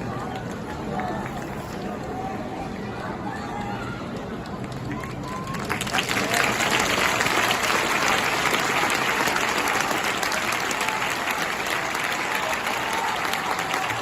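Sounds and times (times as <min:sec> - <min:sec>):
stadium crowd applauding: 0:00.0 - 0:14.0.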